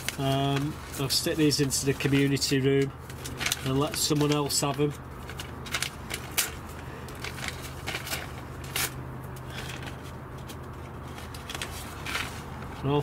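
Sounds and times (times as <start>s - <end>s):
paper packet rustling: 0.0s - 13.0s.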